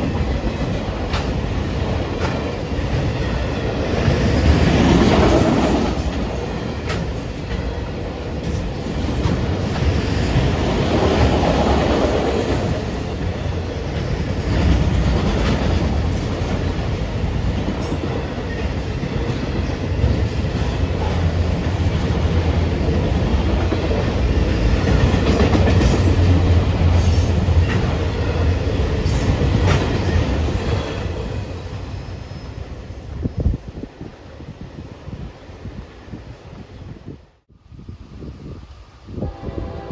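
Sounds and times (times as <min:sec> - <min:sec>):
train cars rolling past: 0:00.0 - 0:37.0.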